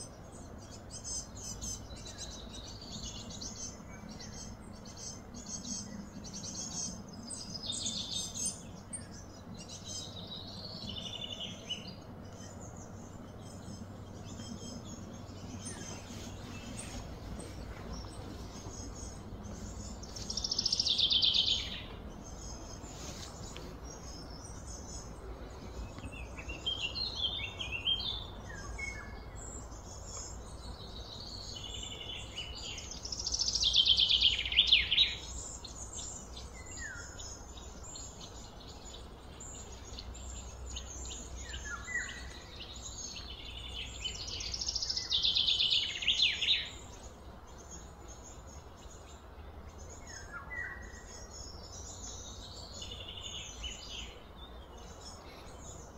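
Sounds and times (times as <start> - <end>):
low background rumble: 0.0 - 45.8
birds singing and chirping: 0.0 - 55.9
bursts of rapid high birdsong: 0.0 - 55.9.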